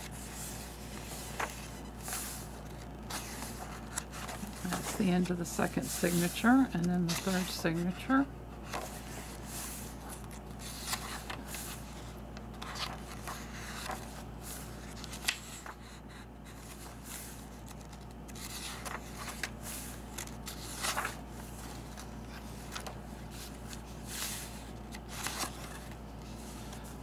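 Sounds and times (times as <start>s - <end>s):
paper pages turning: 0.0s - 27.0s.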